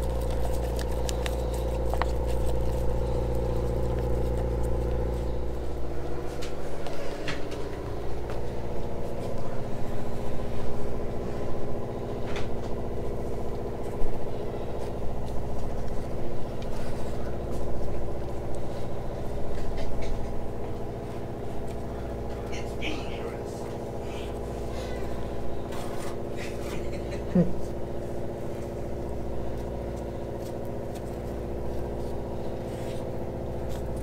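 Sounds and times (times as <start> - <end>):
motor humming: 0.0 - 34.0.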